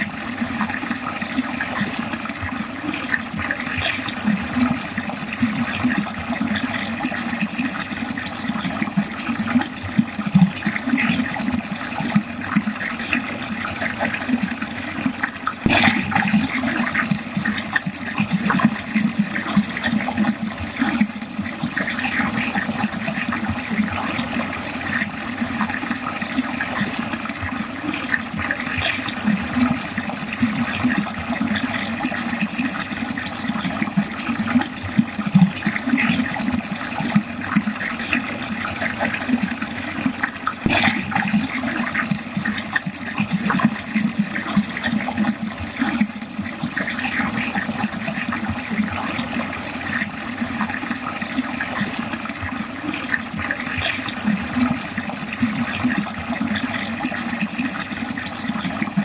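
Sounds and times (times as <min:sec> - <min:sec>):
water draining down a drain: 0:00.0 - 0:59.0.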